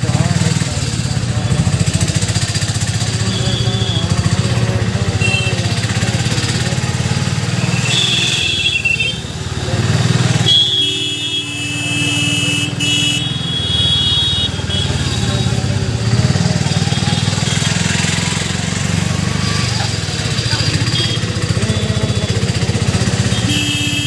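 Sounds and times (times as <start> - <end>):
small engine puttering: 0.0 - 10.8, 14.4 - 24.0.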